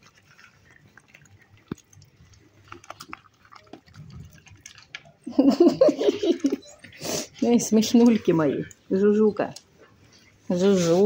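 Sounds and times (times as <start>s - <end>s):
animals crunching nuts: 0.0s - 10.5s.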